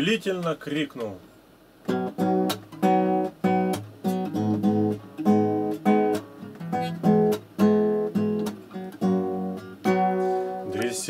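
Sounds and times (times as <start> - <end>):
classical guitar strumming: 1.8 - 11.0.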